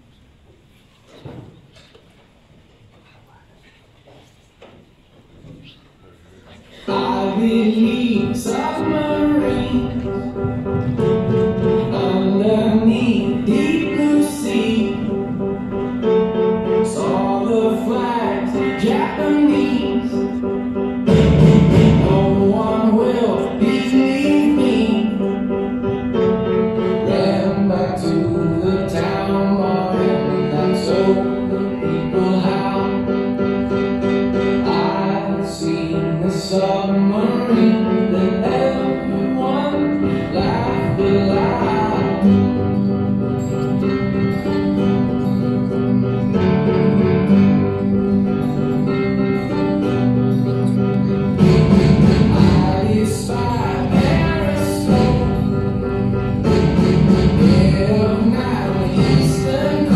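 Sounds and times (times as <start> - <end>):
song with vocals and guitar: 6.7 - 59.9.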